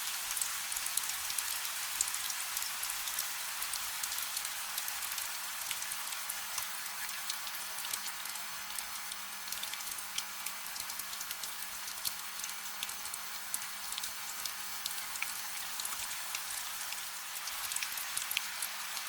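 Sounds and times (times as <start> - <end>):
gentle steady rain: 0.0 - 19.0.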